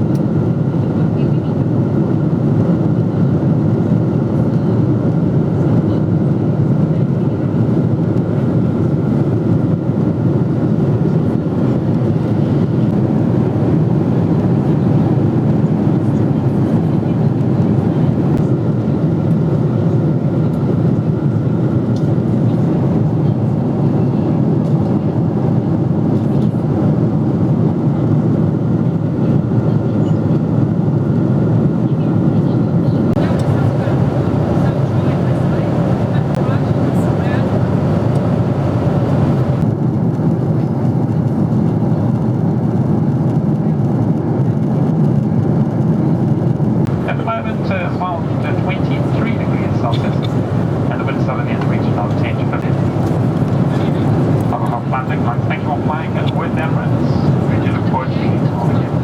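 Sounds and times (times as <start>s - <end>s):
aircraft cabin engine rush: 0.0s - 59.0s.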